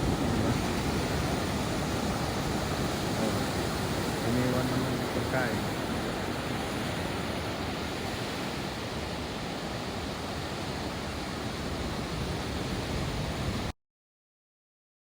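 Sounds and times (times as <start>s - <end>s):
ocean surf rushing: 0.0s - 13.7s.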